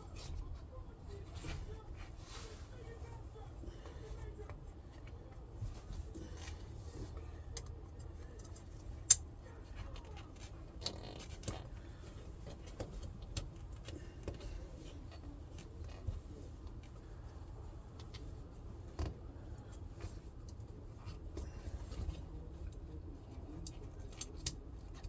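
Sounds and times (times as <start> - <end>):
small clicks and rustles: 0.1 - 25.0.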